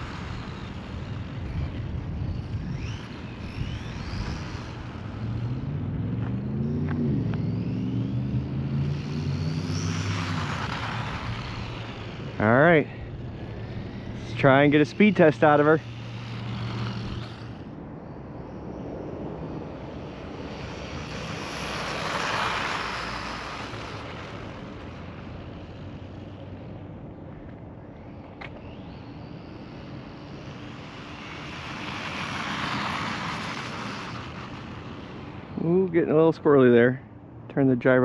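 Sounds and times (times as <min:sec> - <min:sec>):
tyre noise on asphalt: 0:00.0 - 0:17.7, 0:19.4 - 0:36.0
rc truck motor whine: 0:00.0 - 0:36.8.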